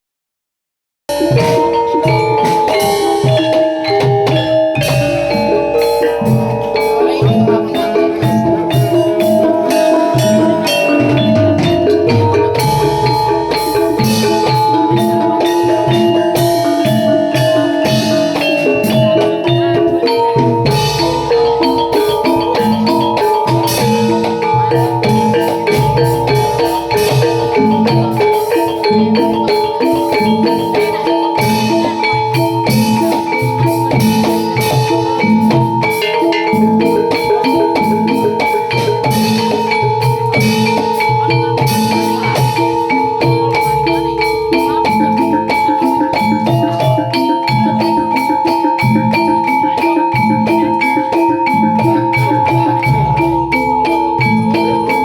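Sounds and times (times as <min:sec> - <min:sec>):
struck metallophones: 0:01.1 - 0:55.0.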